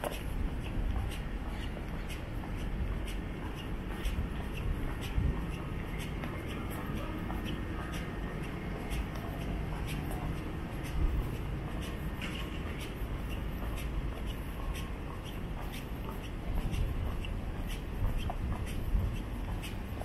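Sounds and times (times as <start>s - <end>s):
footsteps scuffing on pavement: 0.0s - 20.0s
low rumble of street noise: 0.0s - 20.0s.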